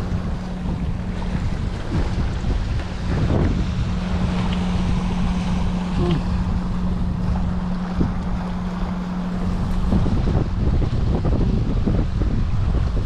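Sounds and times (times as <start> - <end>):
steady low hum: 0.0 - 13.0
wind buffeting microphone: 0.0 - 13.0.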